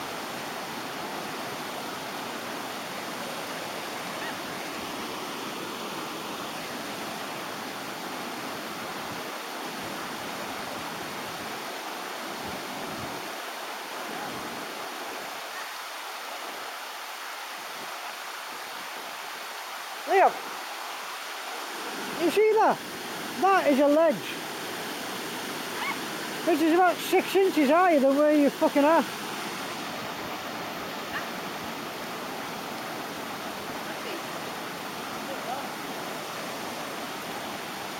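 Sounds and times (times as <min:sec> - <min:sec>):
river water rushing over rapids: 0:00.0 - 0:37.9.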